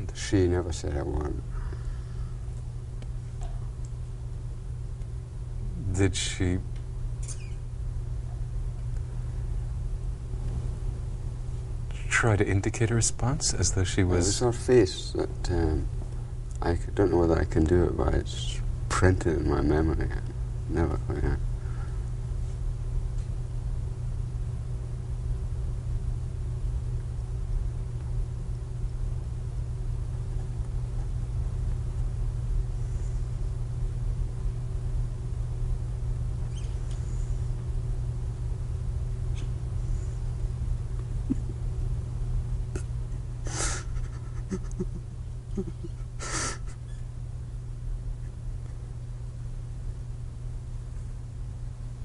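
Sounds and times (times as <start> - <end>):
low electrical hum and hiss: 0.0 - 52.0.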